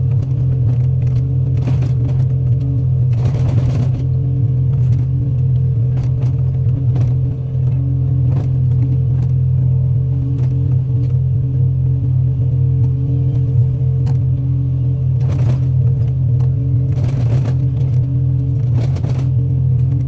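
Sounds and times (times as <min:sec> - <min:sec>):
heavy equipment engine running: 0:00.0 - 0:20.0.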